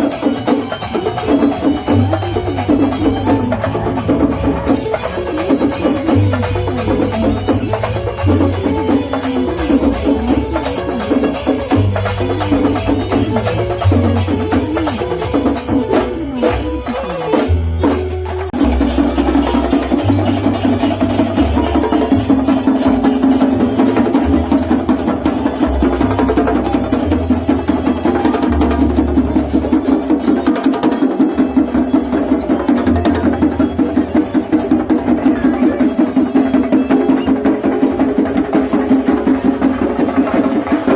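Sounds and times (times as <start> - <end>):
drum ensemble playing: 0.0 - 40.9.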